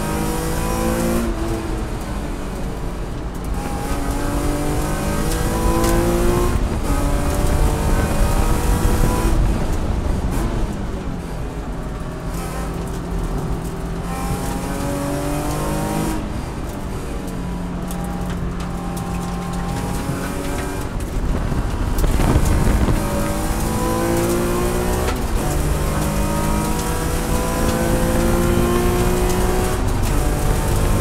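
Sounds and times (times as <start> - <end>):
race car engine revving: 0.0 - 31.0.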